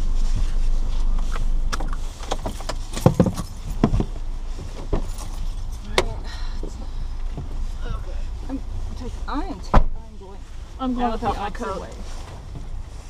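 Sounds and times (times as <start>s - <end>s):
low rumble: 0.0s - 13.0s
objects handled inside a car: 0.0s - 13.0s.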